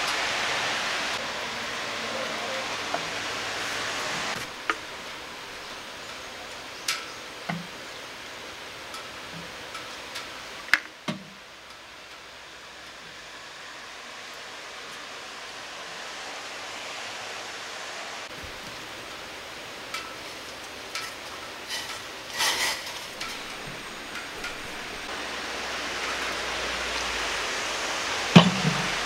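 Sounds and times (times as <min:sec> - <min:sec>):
water boiling in a pot: 0:00.0 - 0:29.0.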